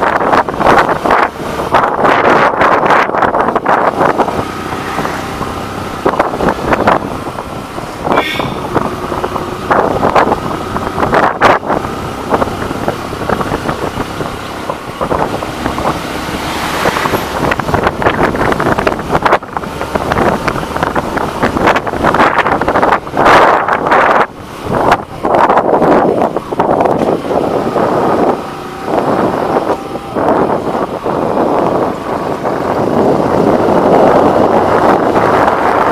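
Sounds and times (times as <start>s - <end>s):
motorcycle engine running: 0.0s - 35.9s
wind buffeting microphone: 0.0s - 35.9s.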